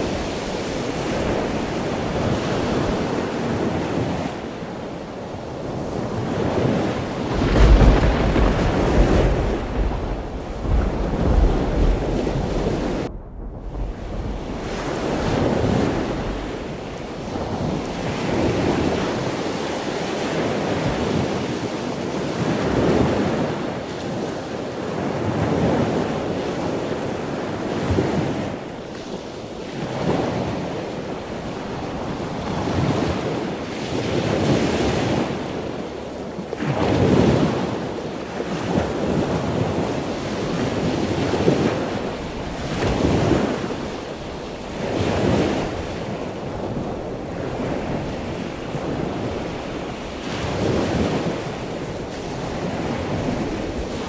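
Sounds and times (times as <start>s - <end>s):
waves washing onto beach: 0.0s - 54.0s
wind rumbling on microphone: 0.0s - 54.0s.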